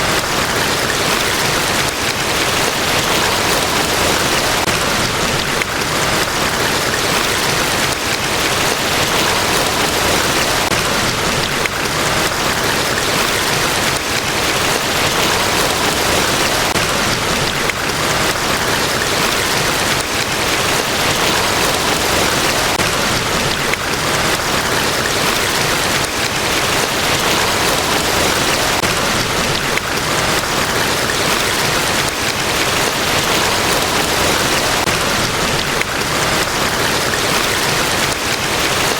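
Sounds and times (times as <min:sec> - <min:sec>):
large waterfall rushing: 0:00.0 - 0:38.9.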